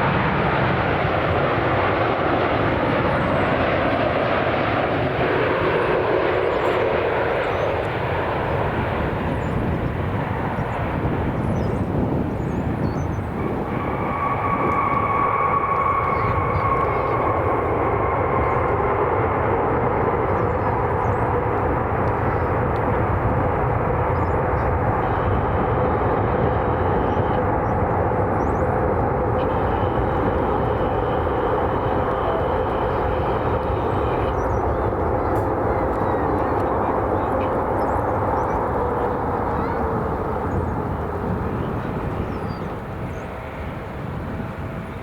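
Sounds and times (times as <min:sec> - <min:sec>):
high engine whine: 0:00.0 - 0:45.0
jet engines running: 0:00.0 - 0:45.0.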